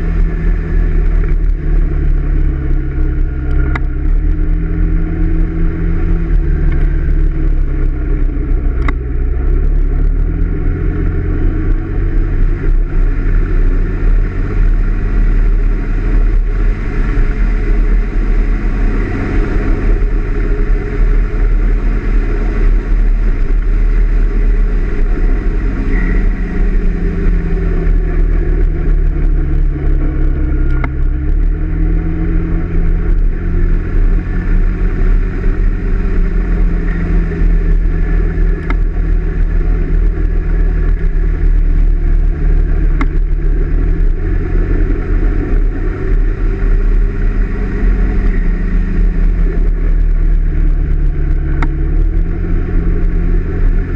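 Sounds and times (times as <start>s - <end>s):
wind rush on microphone: 0.0s - 53.9s.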